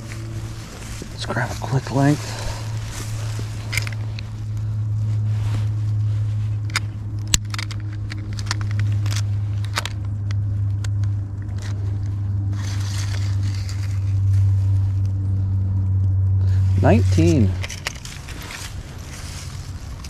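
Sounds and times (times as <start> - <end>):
clicks scrapes and rustles of handling fish: 0.0 - 15.0, 17.1 - 20.0
steady low hum: 0.0 - 20.0.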